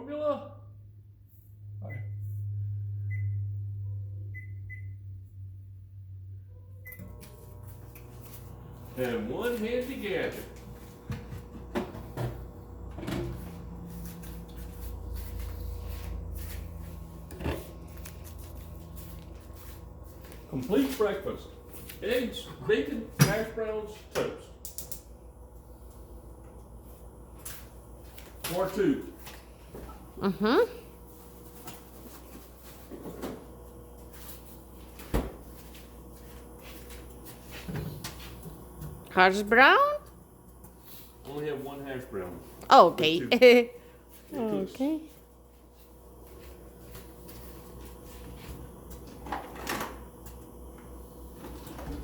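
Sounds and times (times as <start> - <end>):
microwave oven humming: 0.1 - 52.0.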